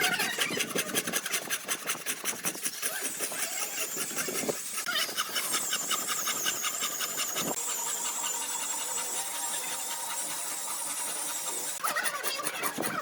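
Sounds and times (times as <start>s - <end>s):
rapid scraping strokes: 0.0s - 13.0s
power tool whining: 2.1s - 12.9s.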